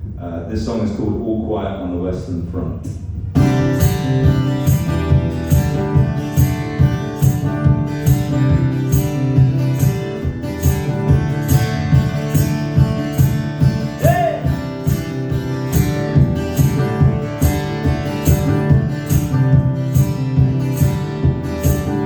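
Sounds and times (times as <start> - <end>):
acoustic guitar strumming: 3.3 - 22.0.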